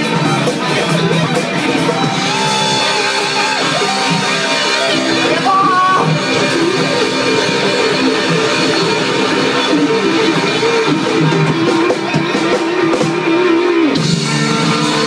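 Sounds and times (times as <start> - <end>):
electric guitar melody: 0.0 - 15.0
live rock band: 0.0 - 15.0.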